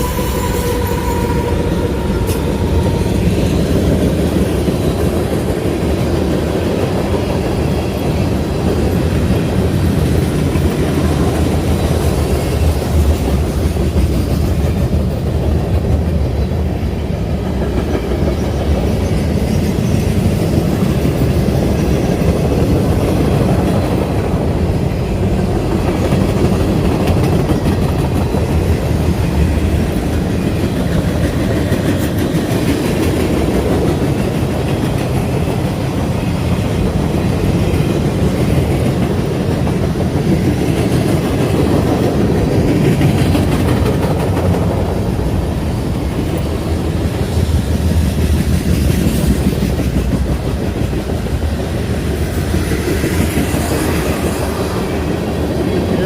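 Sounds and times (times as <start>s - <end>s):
train rumbling over rails: 0.0s - 56.0s.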